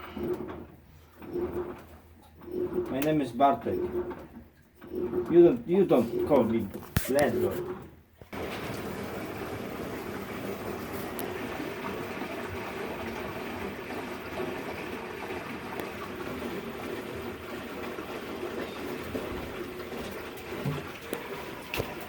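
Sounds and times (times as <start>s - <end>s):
washing machine running: 0.0s - 22.0s.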